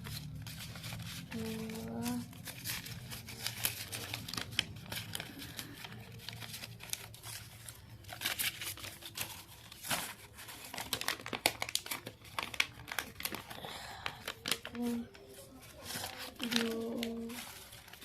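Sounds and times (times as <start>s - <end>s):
paper banknotes rustling: 0.0s - 18.0s.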